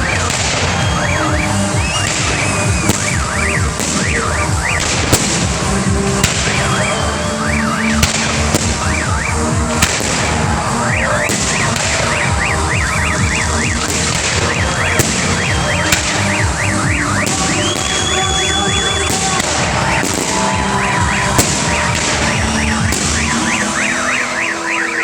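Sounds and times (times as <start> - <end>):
fireworks bangs and cracks: 0.0 - 25.0.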